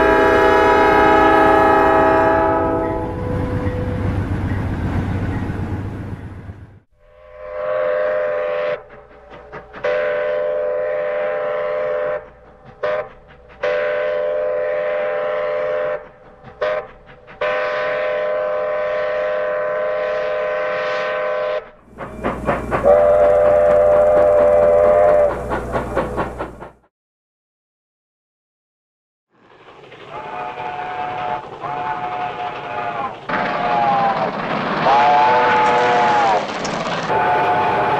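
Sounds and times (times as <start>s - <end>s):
steam locomotive whistle blasts: 0.0s - 4.2s, 7.0s - 26.3s, 30.1s - 36.4s, 37.1s - 37.9s
moving train rumble and hiss: 0.0s - 26.9s, 29.4s - 37.9s.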